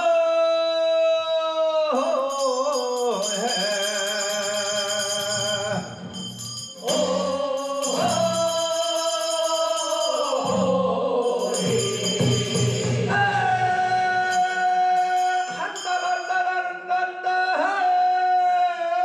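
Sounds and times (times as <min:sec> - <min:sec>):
man singing drawn-out notes: 0:00.0 - 0:06.1, 0:06.8 - 0:19.0.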